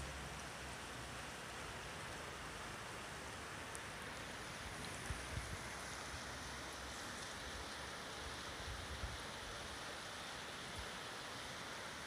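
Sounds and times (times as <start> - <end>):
water running across street: 0.0 - 12.0.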